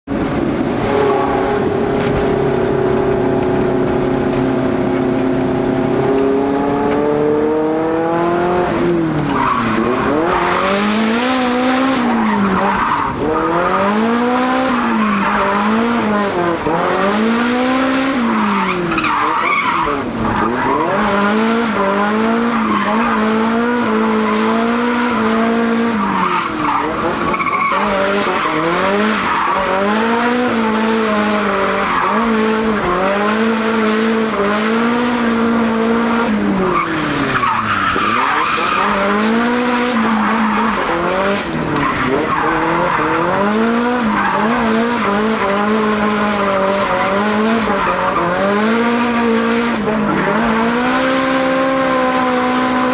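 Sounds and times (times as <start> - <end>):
car engine revving high: 0.1 - 52.9
tyres skidding and squealing: 0.1 - 52.9.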